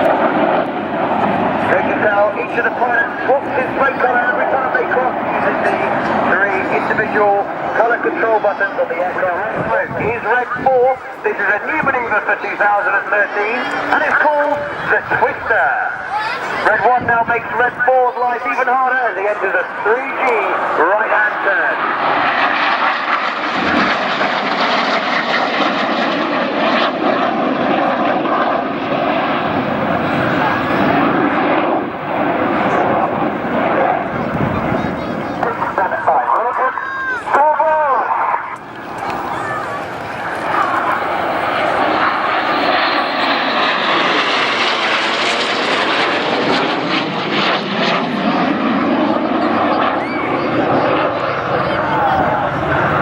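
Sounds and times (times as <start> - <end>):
jet aircraft rushing: 0.0 - 53.0.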